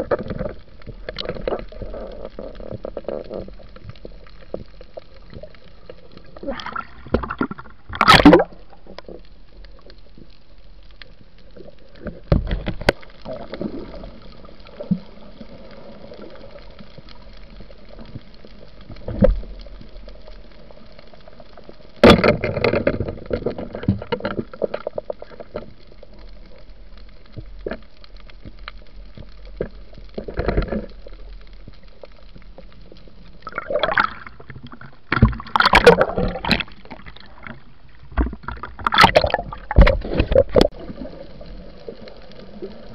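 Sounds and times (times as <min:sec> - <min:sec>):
splashing and bubbling: 0:00.0 - 0:10.3, 0:11.5 - 0:26.7, 0:28.9 - 0:42.9
muffled underwater wash: 0:00.0 - 0:42.9.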